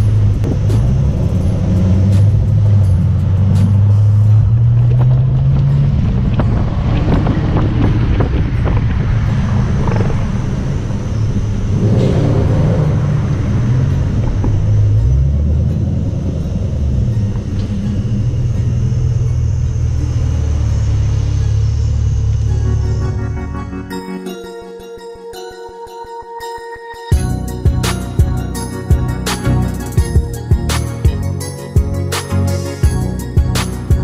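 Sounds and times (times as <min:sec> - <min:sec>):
car engines running: 0:00.0 - 0:24.4, 0:27.1 - 0:34.0
music with deep bass line: 0:00.0 - 0:34.0.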